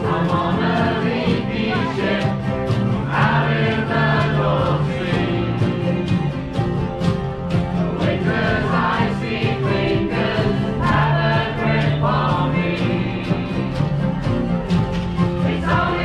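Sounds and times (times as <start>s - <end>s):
strummed acoustic guitars: 0.0s - 16.0s
voices singing together: 0.0s - 16.0s.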